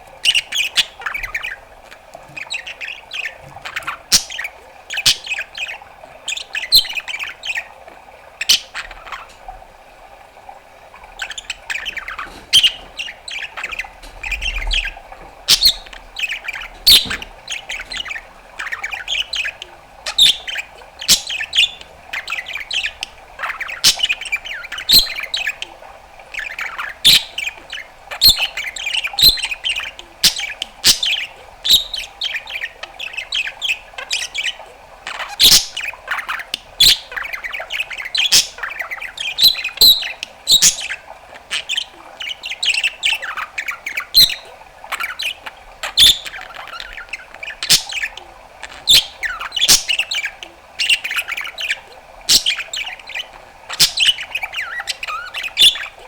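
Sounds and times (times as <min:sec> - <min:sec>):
budgerigar chattering: 0:00.2 - 0:07.7, 0:11.2 - 0:56.0.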